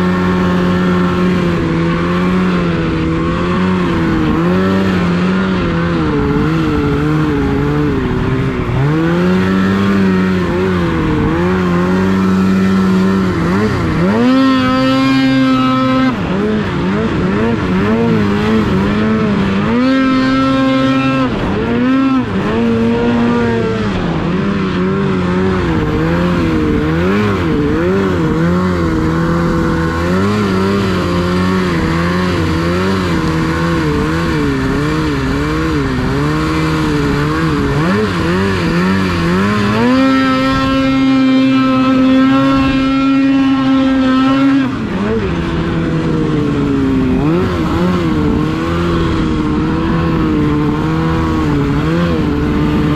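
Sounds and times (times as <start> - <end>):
snowmobile engine revving: 0.0 - 52.9.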